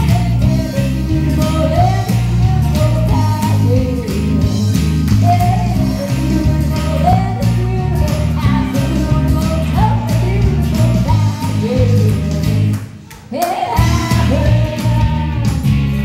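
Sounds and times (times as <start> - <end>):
person singing karaoke: 0.0 - 16.0
rock band music: 0.0 - 16.0.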